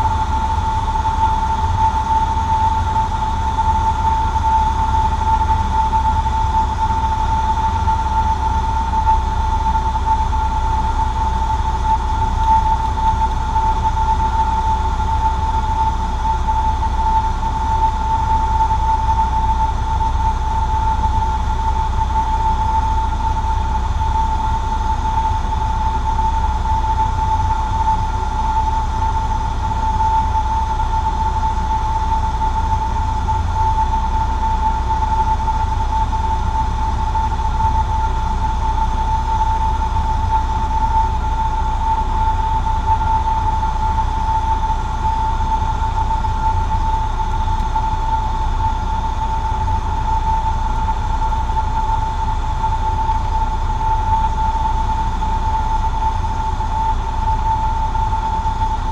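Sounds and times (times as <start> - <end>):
aircraft engine drone in cabin: 0.0 - 58.9
steady high-pitched tone: 0.0 - 58.9.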